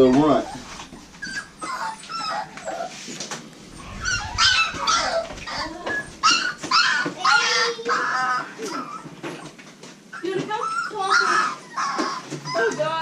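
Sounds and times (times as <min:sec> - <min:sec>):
puppy whimpering and yelping: 0:00.0 - 0:13.0.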